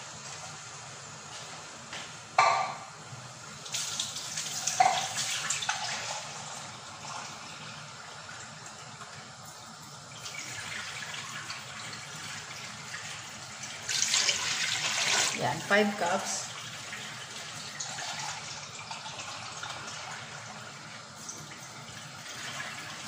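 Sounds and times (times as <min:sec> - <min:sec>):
water running from tap: 0:03.5 - 0:23.0.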